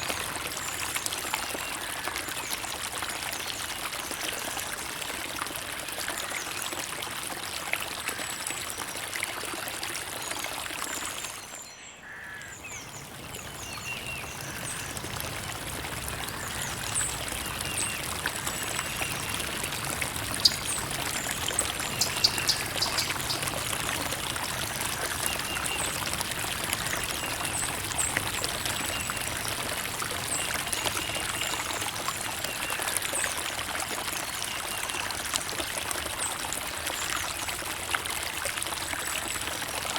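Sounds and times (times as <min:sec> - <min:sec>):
creek water over rocks: 0:00.0 - 0:39.9.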